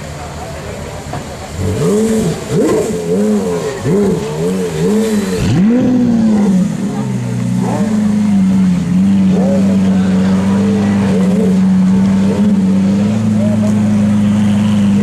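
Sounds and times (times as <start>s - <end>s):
car engine revving: 0.0s - 15.0s
car engine revving and idling: 0.0s - 15.0s.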